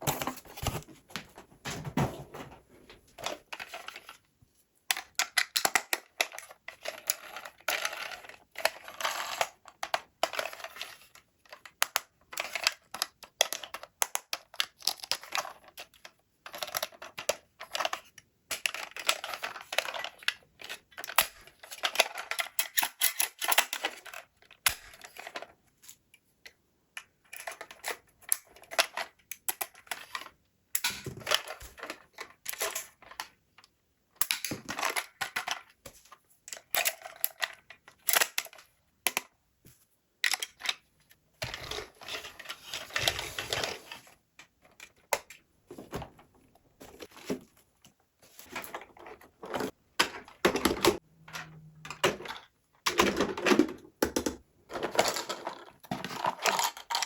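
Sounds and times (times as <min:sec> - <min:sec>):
plastic toys clicking and tapping: 0:04.9 - 0:39.4, 0:40.2 - 0:45.5, 0:48.4 - 0:57.0.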